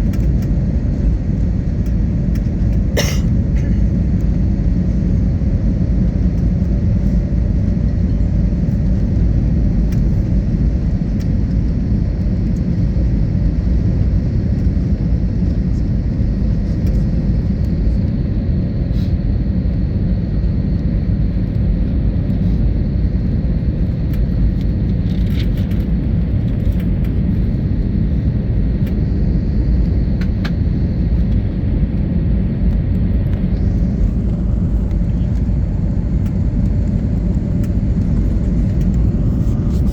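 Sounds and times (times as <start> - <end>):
jet cabin engine rumble: 0.0 - 39.9.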